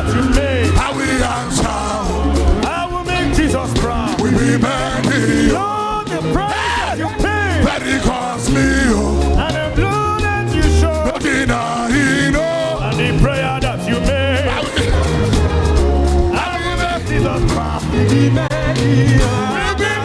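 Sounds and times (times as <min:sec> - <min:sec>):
live gospel band music: 0:00.0 - 0:20.0
pulsing bass beat: 0:00.0 - 0:20.0.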